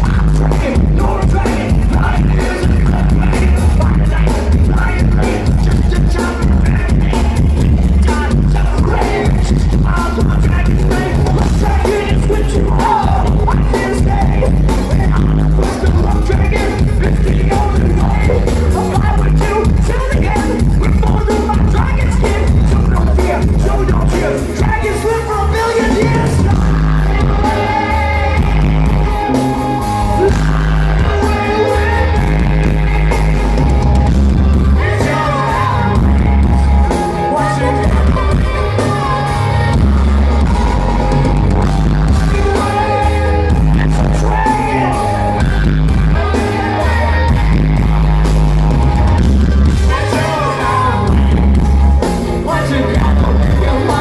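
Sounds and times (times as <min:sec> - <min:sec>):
heavy pulsing bass line: 0:00.0 - 0:54.0
person singing: 0:00.0 - 0:54.0
ska-rock band playing live: 0:00.0 - 0:54.0.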